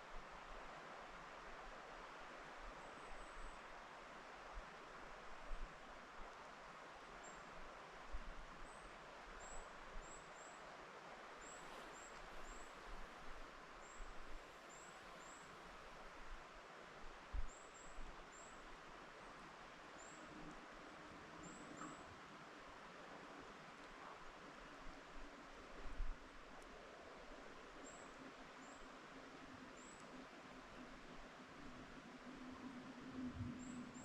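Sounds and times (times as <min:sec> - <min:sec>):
wind rustling through trees: 0:00.0 - 0:34.0.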